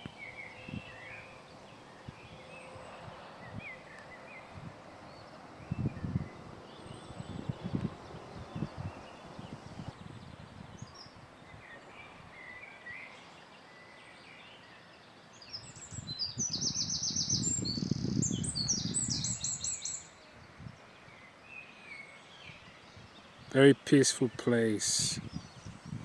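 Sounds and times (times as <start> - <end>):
songbirds singing trills: 0.0 - 26.0.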